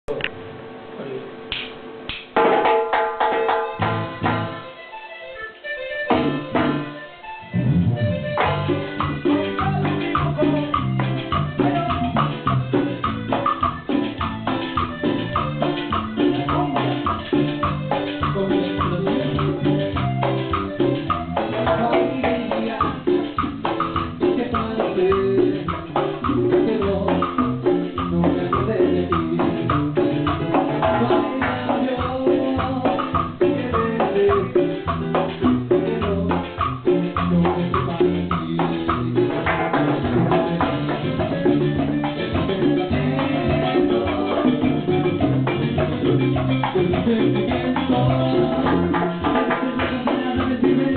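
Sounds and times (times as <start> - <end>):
latin dance band playing: 2.2 - 50.9
shaker percussion: 8.4 - 50.9.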